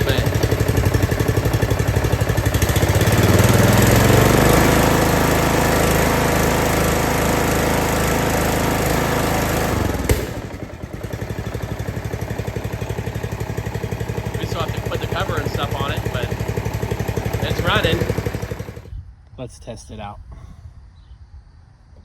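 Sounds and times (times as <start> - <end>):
mower engine running: 0.0 - 18.9.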